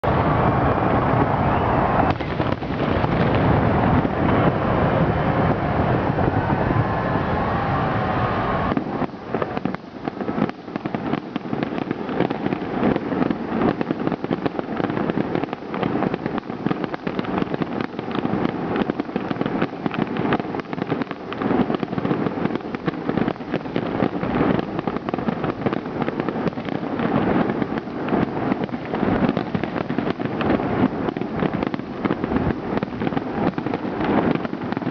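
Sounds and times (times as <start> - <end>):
crackling fireworks pops and bangs: 0.0 - 34.9
fireworks barrage: 0.0 - 34.9.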